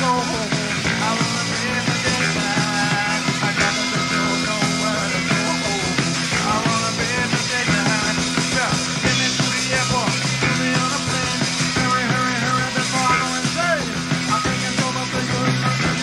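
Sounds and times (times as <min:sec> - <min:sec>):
drums: 0:00.0 - 0:16.0
electric guitar: 0:00.0 - 0:16.0
punk rock band playing live: 0:00.0 - 0:16.0.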